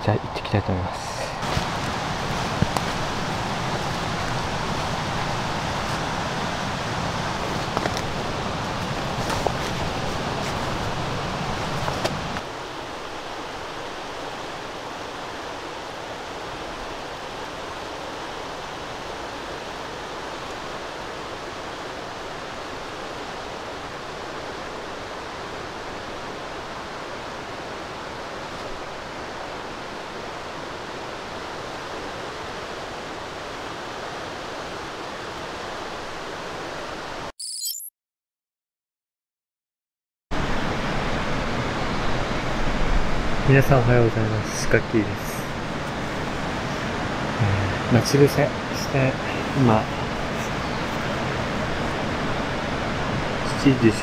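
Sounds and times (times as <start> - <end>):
outdoor ambience rushing noise: 0.0 - 37.3, 40.3 - 54.0.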